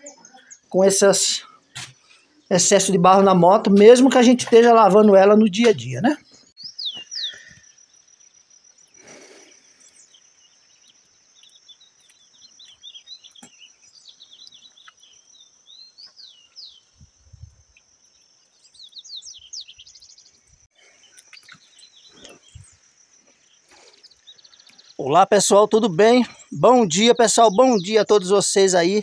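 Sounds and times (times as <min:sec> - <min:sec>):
birds chirping and calling: 0:00.0 - 0:07.9, 0:09.0 - 0:17.0, 0:18.6 - 0:29.0.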